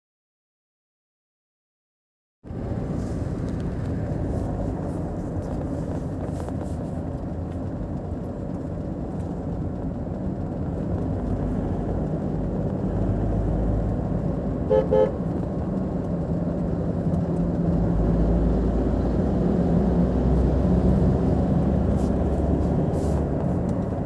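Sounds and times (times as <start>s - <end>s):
car driving on highway: 2.5s - 24.0s.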